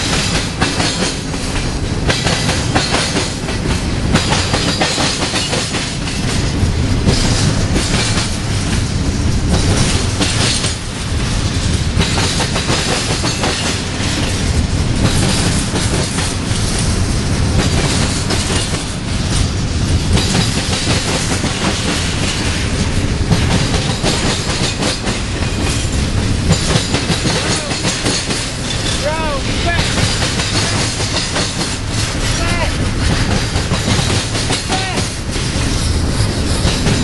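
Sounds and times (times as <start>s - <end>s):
train wheels rumbling and clattering: 0.0s - 37.0s.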